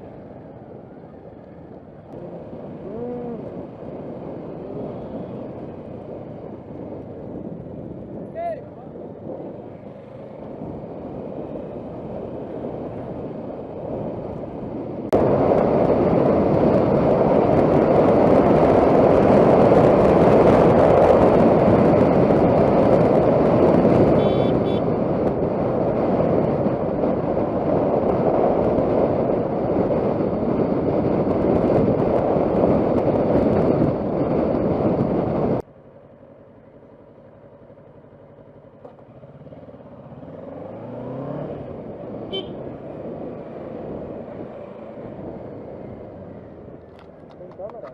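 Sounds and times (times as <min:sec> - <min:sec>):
motorcycle engine: 0:00.0 - 0:47.9
road noise: 0:00.0 - 0:47.9.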